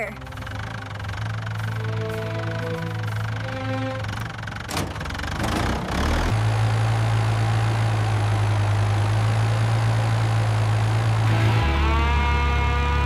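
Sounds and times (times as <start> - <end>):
excavator engine starting and idling: 0.0 - 13.0.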